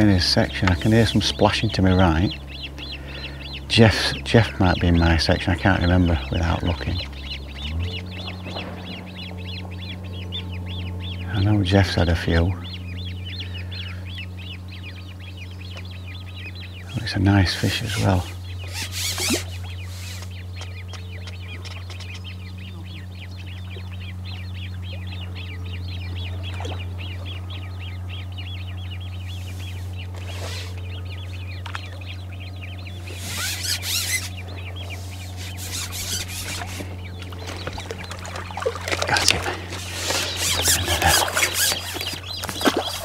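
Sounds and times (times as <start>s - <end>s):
small birds chirping: 0.0s - 43.0s
steady low hum: 0.0s - 43.0s.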